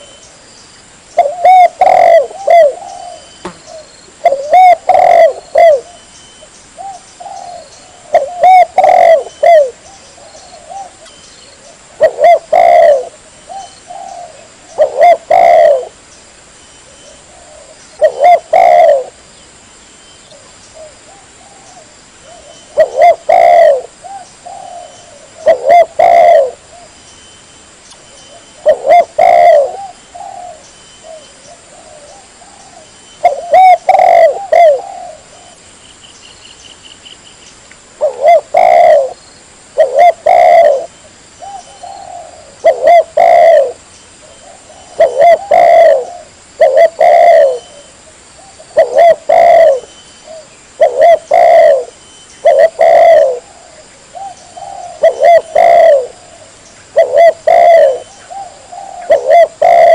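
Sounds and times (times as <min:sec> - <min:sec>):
dove cooing: 0:01.2 - 0:06.1, 0:06.8 - 0:16.0, 0:17.0 - 0:19.2, 0:20.3 - 0:26.9, 0:28.3 - 0:35.6, 0:38.0 - 0:39.2, 0:39.8 - 0:59.9.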